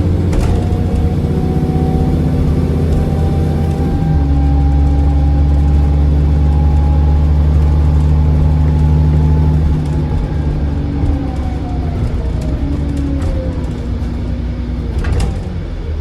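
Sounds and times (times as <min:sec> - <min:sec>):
diesel bus engine pulling hard: 0:00.0 - 0:16.0.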